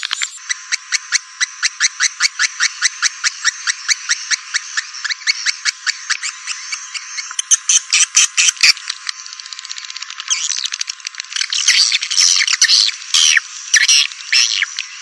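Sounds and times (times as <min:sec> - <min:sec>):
dense twittering: 0:00.0 - 0:15.0.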